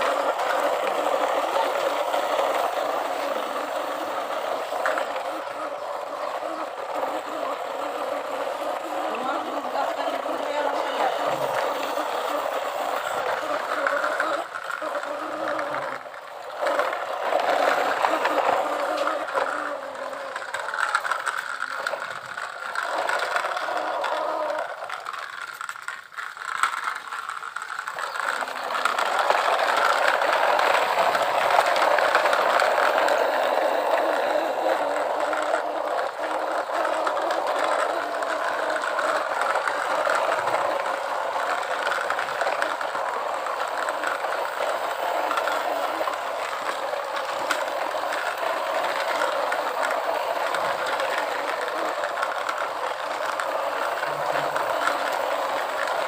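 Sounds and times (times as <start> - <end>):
toy vehicles rattling and whirring: 0.0 - 56.0.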